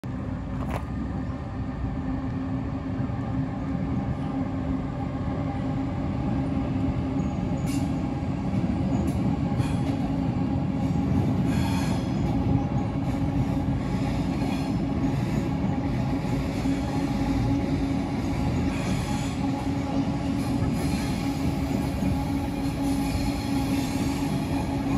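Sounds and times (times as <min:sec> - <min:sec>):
train rumbling across steel bridge: 0:00.0 - 0:24.9.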